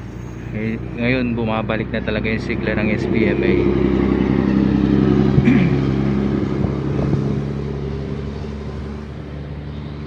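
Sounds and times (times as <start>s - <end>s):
bus engine humming: 0.0s - 10.0s
road noise: 0.0s - 10.0s.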